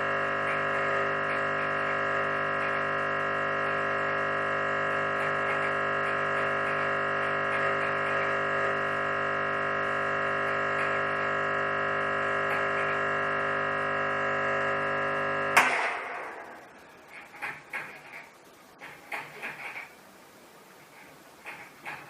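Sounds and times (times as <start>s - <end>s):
espresso machine pump buzzing: 0.0s - 18.2s.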